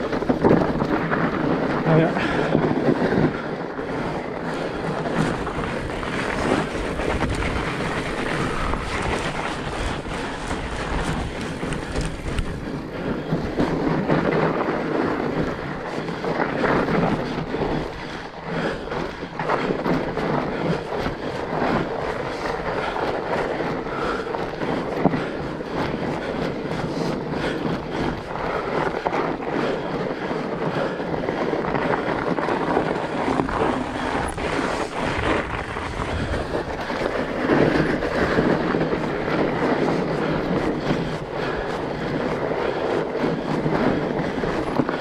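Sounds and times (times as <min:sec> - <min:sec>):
bike knocks and rattles: 0:00.0 - 0:45.0
bike tyres rumbling on trail: 0:00.0 - 0:45.0
wind on microphone: 0:00.0 - 0:45.0.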